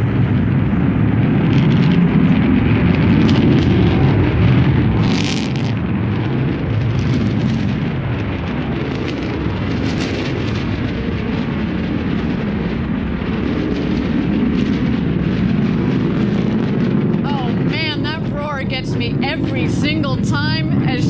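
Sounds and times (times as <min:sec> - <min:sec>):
rocket engine rumbling with crackle: 0:00.0 - 0:21.0.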